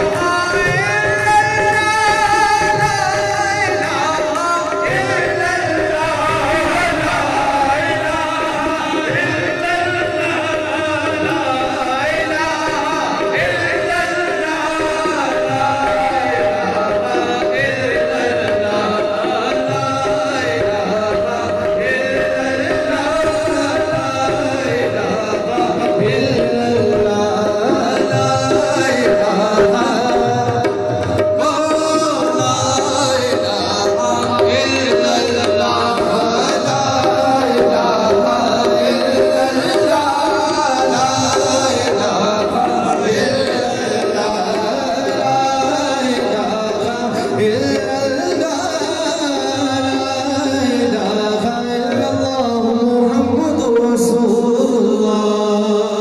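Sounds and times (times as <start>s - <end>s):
men singing: 0.0s - 56.0s
tabla drumming: 0.0s - 56.0s.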